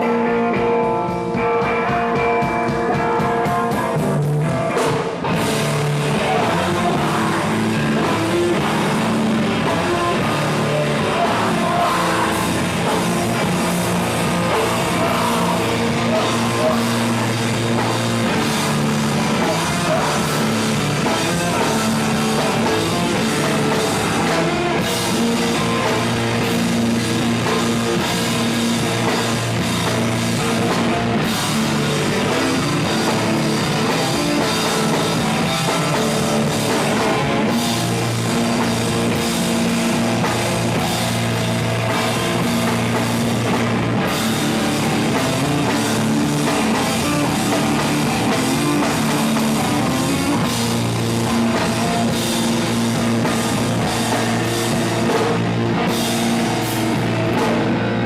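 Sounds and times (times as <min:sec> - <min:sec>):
distorted electric guitars: 0:00.0 - 0:58.0
drum kit: 0:00.0 - 0:58.0
heavy rock band playing: 0:00.0 - 0:58.0.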